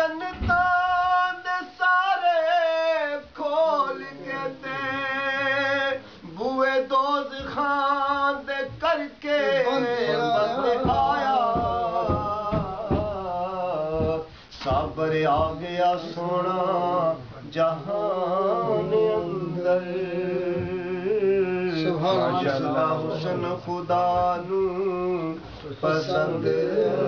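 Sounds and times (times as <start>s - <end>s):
man singing long held notes: 0.0s - 22.4s.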